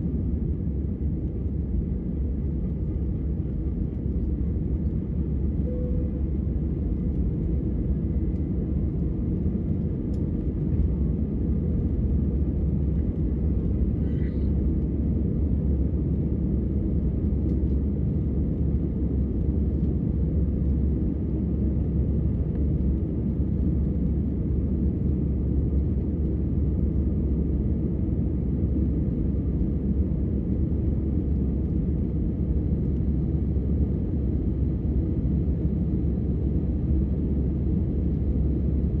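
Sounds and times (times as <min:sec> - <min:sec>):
jet engine cabin rumble: 0:00.0 - 0:39.0.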